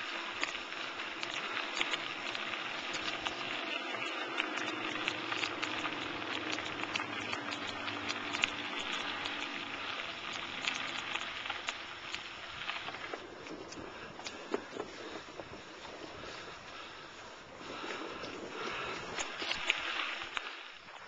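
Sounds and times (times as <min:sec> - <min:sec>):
bicycle tyres rolling over gravel: 0:00.0 - 0:21.0.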